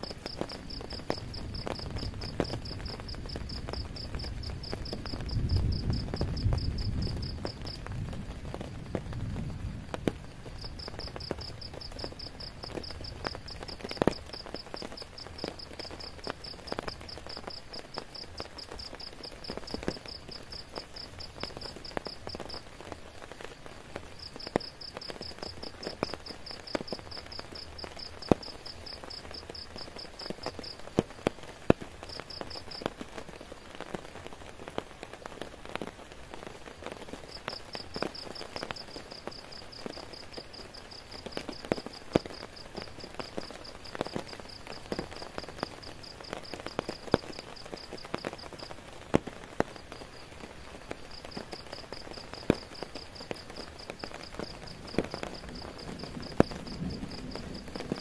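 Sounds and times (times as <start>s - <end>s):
rain drops tapping: 0.0s - 58.0s.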